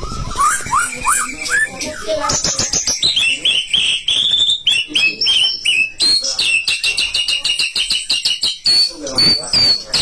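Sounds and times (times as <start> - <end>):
bird singing whistled notes: 0.0 - 10.0.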